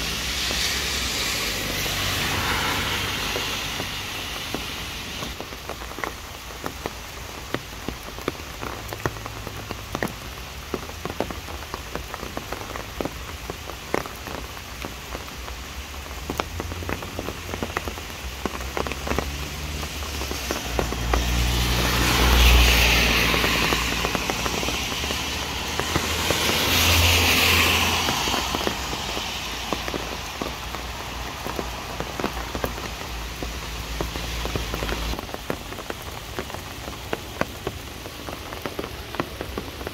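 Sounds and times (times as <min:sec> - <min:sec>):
rain on leaves and pavement: 0:00.0 - 0:39.9
vehicle passing on wet road: 0:00.0 - 0:39.9.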